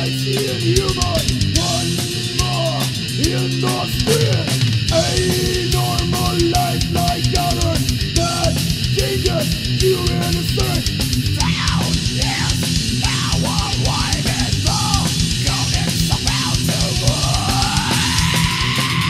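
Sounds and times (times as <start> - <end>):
distorted electric guitars: 0.0 - 19.0
fast drumming: 0.0 - 19.0
guitar melody with bending notes: 0.0 - 19.0.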